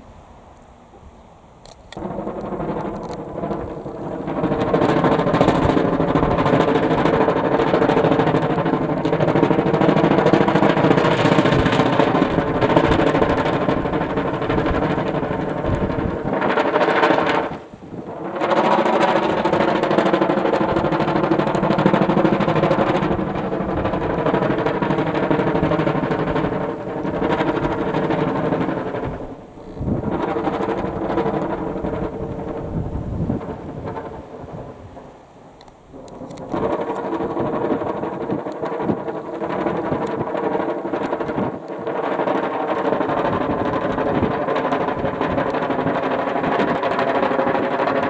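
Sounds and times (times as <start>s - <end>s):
kite buzzing in wind: 0.0s - 48.0s.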